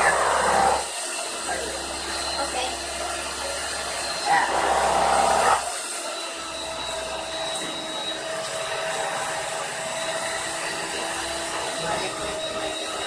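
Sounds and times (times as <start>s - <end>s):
small electric motor whirring: 0.0s - 13.0s.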